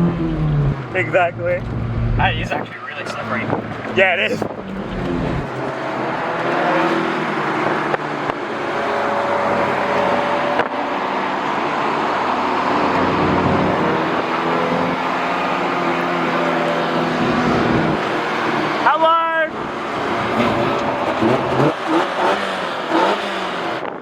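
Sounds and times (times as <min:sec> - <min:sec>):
car engine at high revs: 0:00.0 - 0:24.0
road and wind noise: 0:00.0 - 0:24.0.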